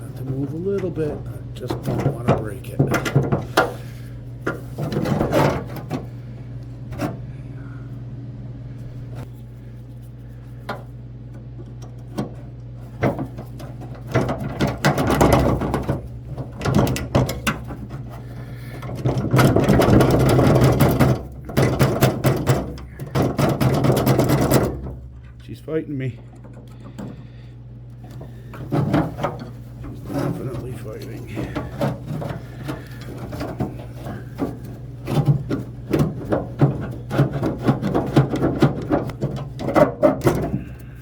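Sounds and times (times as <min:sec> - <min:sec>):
metal clicking rattling and scraping: 0:00.0 - 0:07.9, 0:08.7 - 0:41.0
steady low hum: 0:00.0 - 0:41.0.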